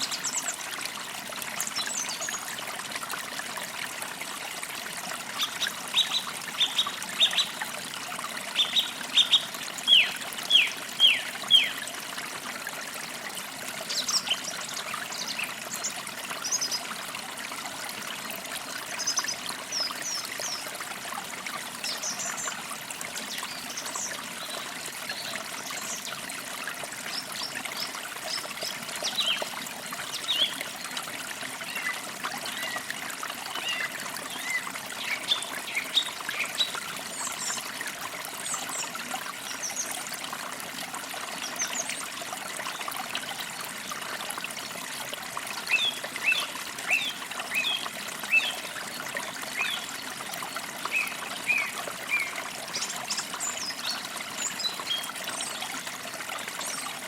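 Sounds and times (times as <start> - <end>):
creek water trickling: 0.0 - 57.0.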